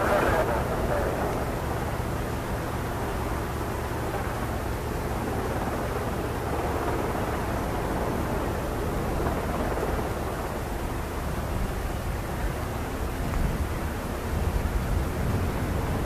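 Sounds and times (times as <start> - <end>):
constant low hum: 0.0 - 16.0
helicopter rotor rushing: 0.0 - 16.0.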